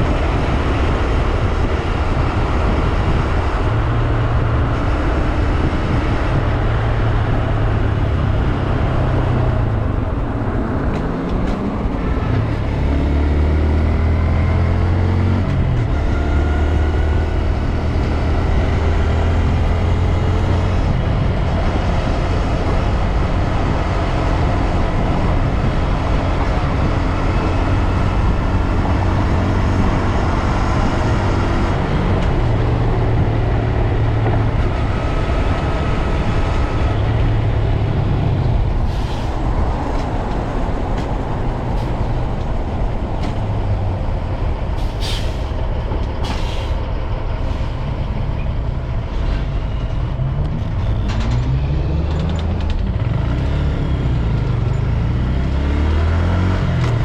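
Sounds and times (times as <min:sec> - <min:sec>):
heavy wind rush: 0:00.0 - 0:54.7.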